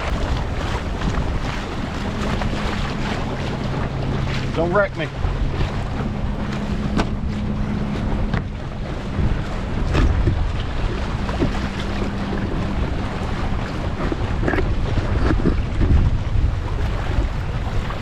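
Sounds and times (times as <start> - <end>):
steady low hum: 0.0 - 18.0
water rushing along boat hull: 0.0 - 18.0
waves slapping hull: 0.0 - 18.0
wind buffeting microphone: 0.0 - 18.0.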